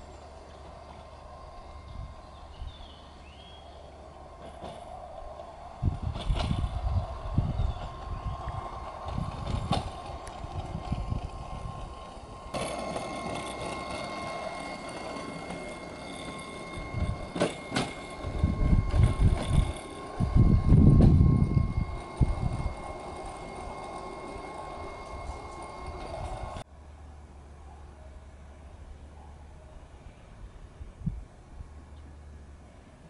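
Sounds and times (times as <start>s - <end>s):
small railbus wheels clattering: 0.0s - 26.7s.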